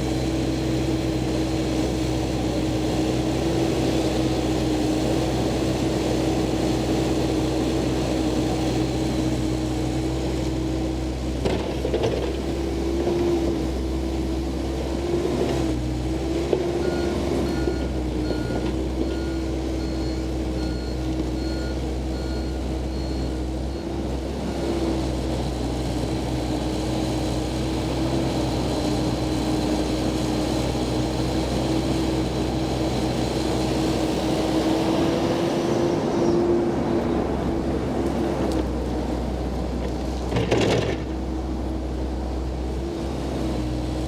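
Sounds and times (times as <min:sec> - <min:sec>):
excavator engine and hydraulics whine: 0:00.0 - 0:44.0.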